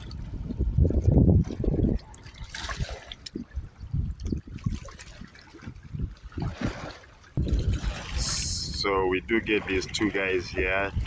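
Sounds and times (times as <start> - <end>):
water lapping at shore: 0.0 - 11.0.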